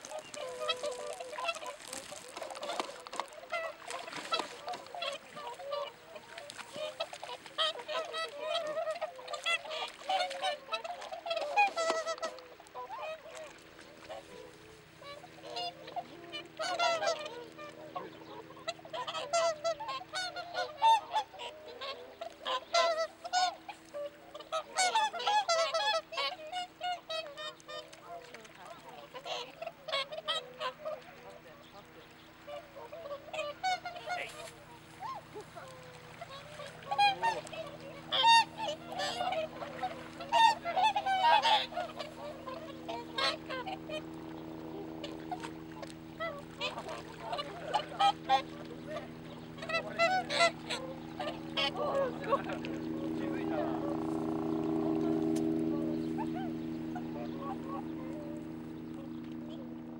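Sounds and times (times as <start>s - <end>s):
swans calling: 0.0s - 59.9s.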